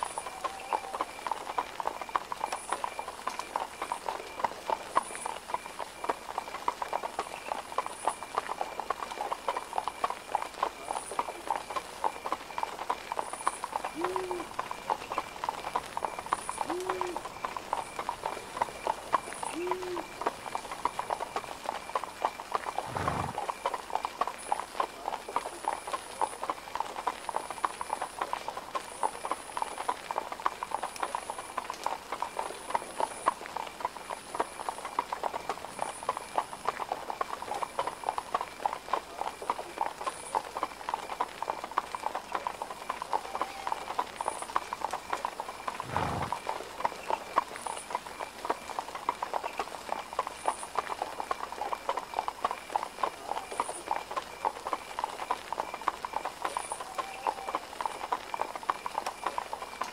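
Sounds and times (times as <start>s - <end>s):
horse hooves clip-clopping: 0.0s - 59.9s.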